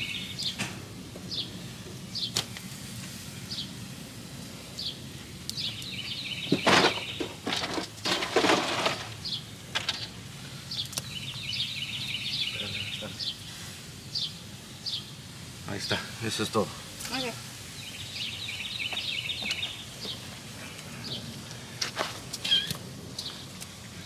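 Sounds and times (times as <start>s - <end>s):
small birds chirping: 0.0s - 7.7s, 8.7s - 24.0s.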